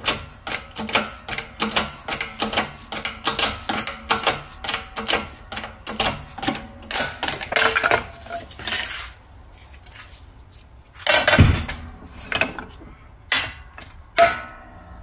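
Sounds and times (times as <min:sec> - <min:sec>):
metallic tapping and scraping: 0:00.0 - 0:09.2, 0:11.0 - 0:14.8.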